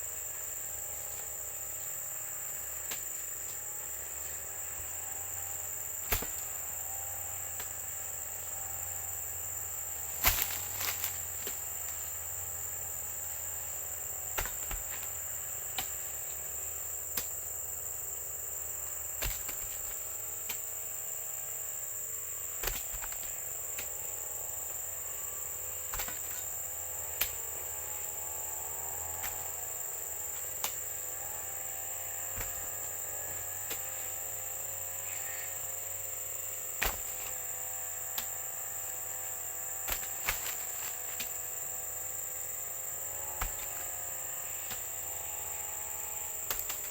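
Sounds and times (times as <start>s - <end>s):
crickets trilling: 0.0s - 46.9s.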